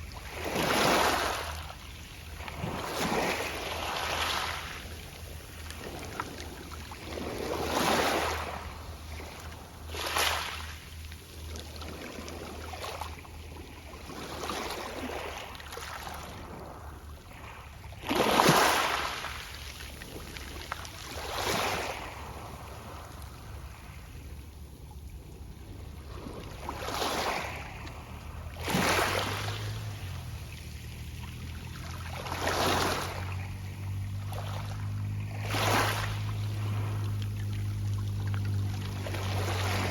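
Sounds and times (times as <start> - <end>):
waves washing onto pebble beach: 0.0 - 13.3, 17.4 - 24.1, 26.0 - 39.9.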